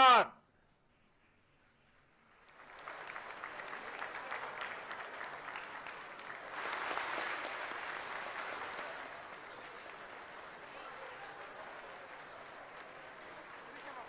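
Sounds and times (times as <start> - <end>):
people applauding: 2.2 - 14.0.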